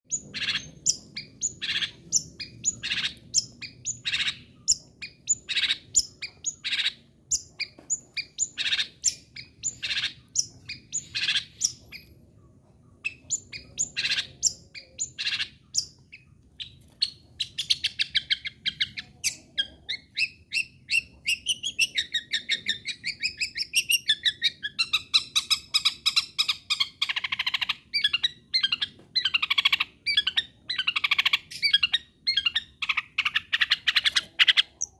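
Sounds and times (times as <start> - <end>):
bird harsh calls: 0.1 - 12.2, 12.9 - 34.9
bird chattering song: 0.1 - 34.9.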